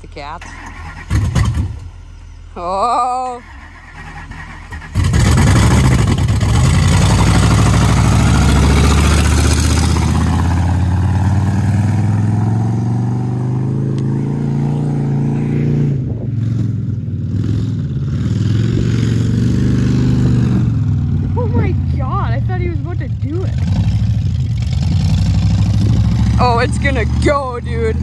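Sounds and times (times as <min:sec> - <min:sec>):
loud truck engine: 0:00.0 - 0:28.0.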